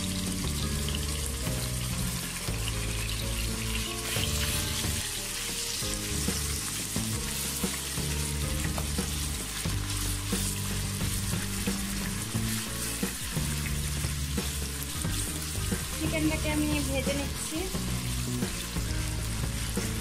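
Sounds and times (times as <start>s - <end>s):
background music: 0.0s - 20.0s
chicken sizzling in oil: 0.0s - 20.0s.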